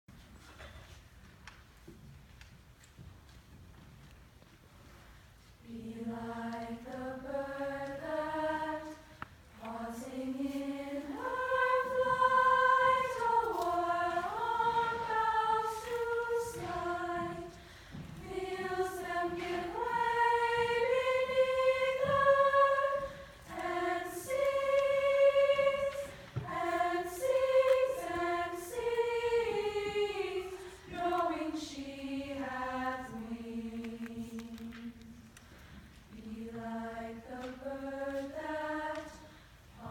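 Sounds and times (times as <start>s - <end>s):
choir singing: 5.6s - 35.2s, 36.1s - 39.9s.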